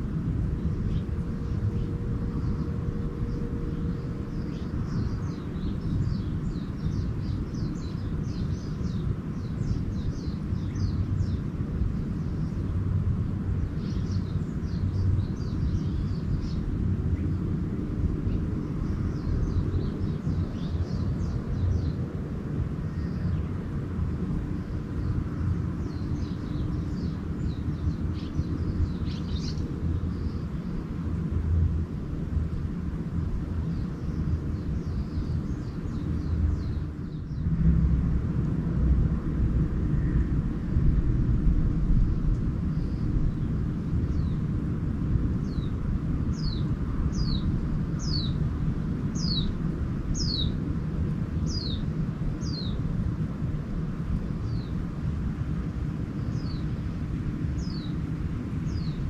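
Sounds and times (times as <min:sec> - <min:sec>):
small birds chirping: 0:00.0 - 0:37.6, 0:42.6 - 0:44.8, 0:45.4 - 0:52.8, 0:54.2 - 0:54.8, 0:55.9 - 0:59.0
steady low rumble: 0:00.0 - 0:59.0.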